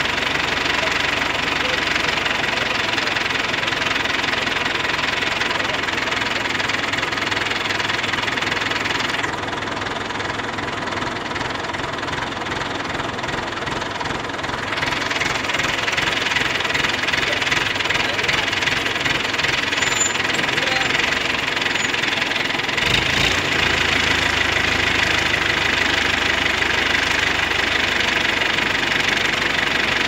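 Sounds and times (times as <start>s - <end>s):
heavy engine running steadily: 0.0s - 30.0s.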